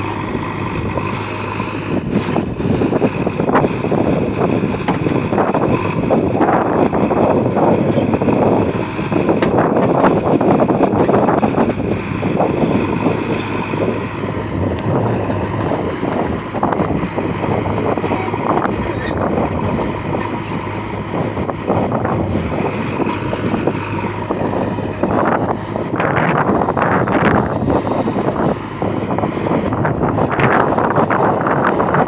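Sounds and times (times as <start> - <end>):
diesel engine running: 0.0 - 32.0
wind buffeting microphone: 0.0 - 32.0.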